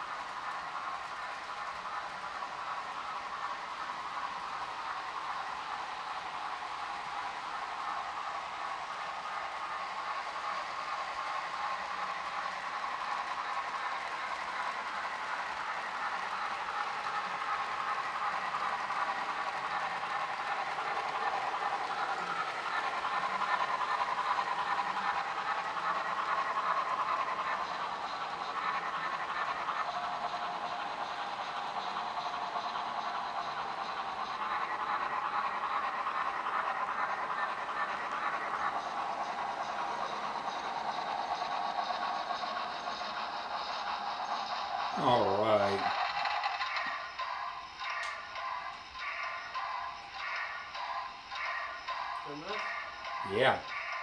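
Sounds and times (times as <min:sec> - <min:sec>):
model train motor whirring: 0:00.0 - 0:54.0
wheels rolling over rails: 0:00.0 - 0:54.0.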